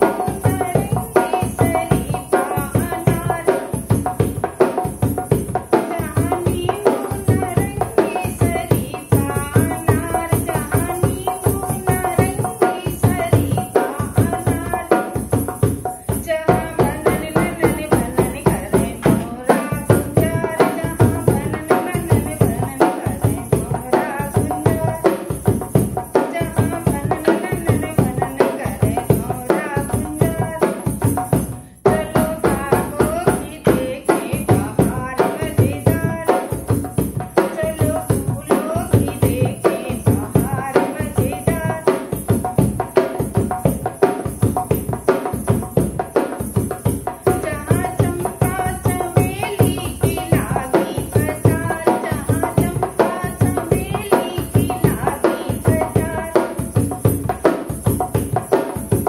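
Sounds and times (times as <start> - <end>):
hand drum rhythm: 0.0 - 59.0
woman singing folk song: 0.0 - 59.0.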